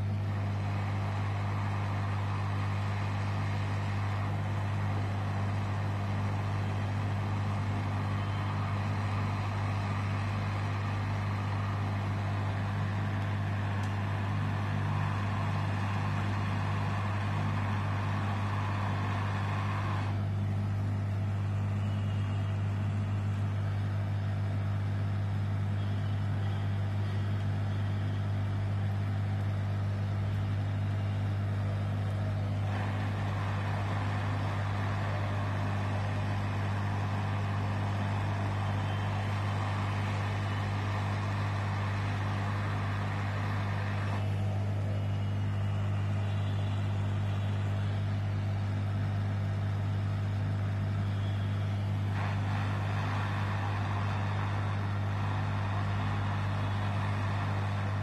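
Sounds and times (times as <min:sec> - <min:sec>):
hot air gun fan hum: 0:00.0 - 0:58.0.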